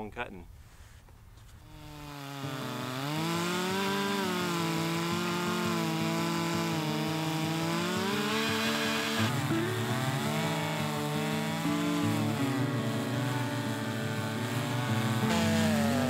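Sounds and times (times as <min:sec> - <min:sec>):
chainsaw cutting log: 0:01.4 - 0:16.0.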